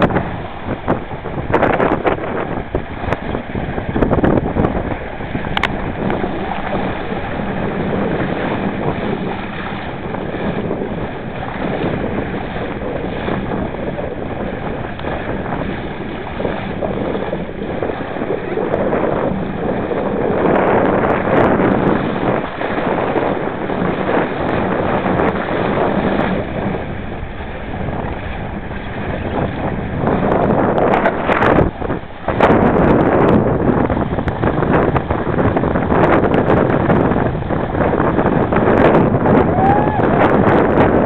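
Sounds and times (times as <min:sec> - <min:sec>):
water rushing along hull: 0:00.0 - 0:41.0
wind buffeting microphone: 0:00.0 - 0:41.0.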